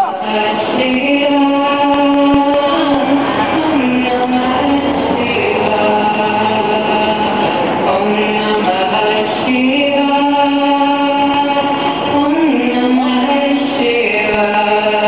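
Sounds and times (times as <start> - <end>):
street musician playing long notes: 0.0 - 15.0.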